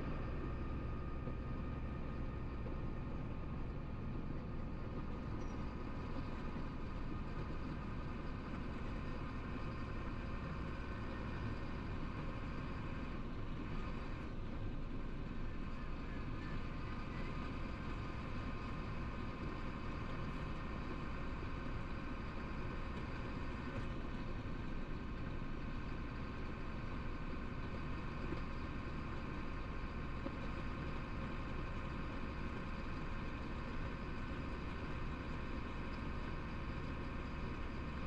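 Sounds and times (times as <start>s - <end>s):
road rumble: 0.0s - 38.0s
truck engine drone: 0.0s - 38.0s.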